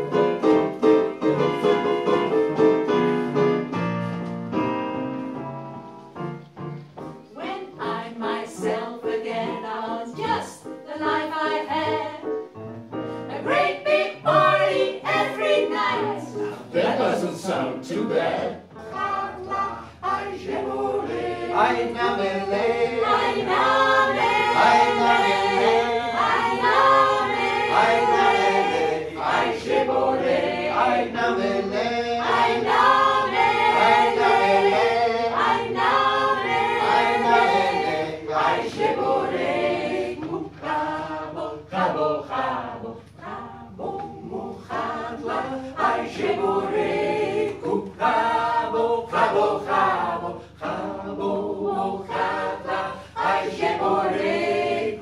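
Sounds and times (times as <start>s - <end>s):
vocal group singing a cappella: 7.1s - 55.0s.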